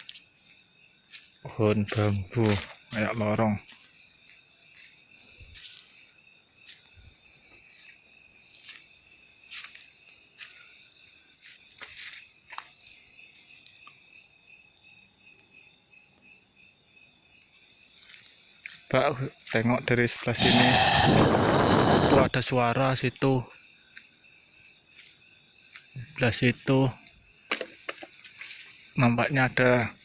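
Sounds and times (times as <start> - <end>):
crickets and insects trilling: 0.0 - 30.0.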